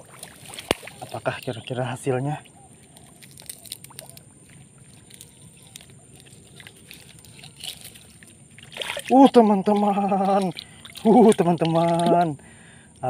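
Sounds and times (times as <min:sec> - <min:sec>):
water sloshing: 0:00.0 - 0:12.4
fishing line clicks and rustles: 0:00.1 - 0:02.0, 0:02.8 - 0:12.4.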